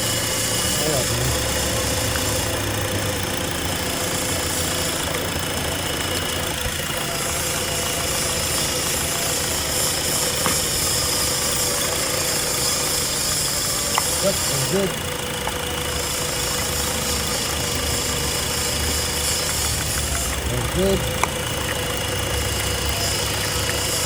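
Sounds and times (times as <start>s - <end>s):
car engine idling with misfire: 0.0s - 24.0s.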